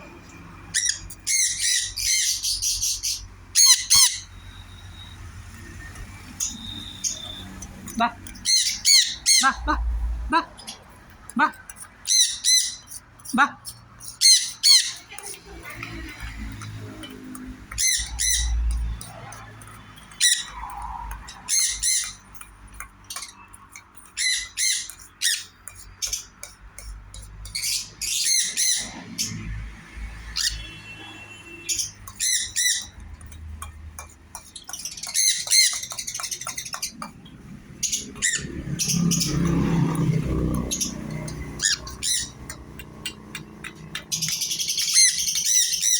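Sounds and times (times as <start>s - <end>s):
parrots squawking and chirping: 0.2s - 45.9s.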